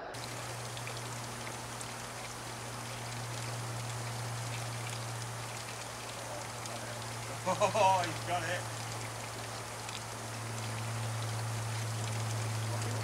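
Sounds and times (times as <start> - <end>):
low steady hum: 0.0 - 13.0
steady hiss: 0.0 - 13.0.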